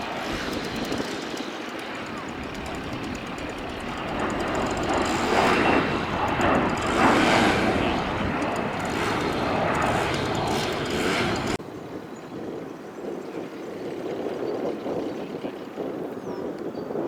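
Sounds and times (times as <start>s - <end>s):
loud aircraft engine noise: 0.0s - 17.0s.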